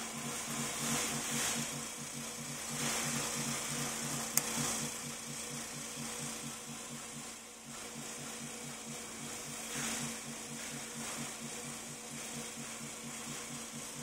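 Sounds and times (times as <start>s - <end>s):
machine hiss: 0.0s - 14.0s
machine mechanical pulsing: 0.0s - 14.0s.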